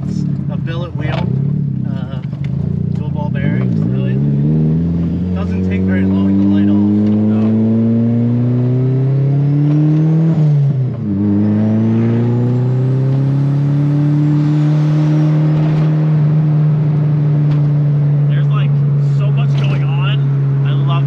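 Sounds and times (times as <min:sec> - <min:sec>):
car engine pulling hard: 0:00.0 - 0:21.0.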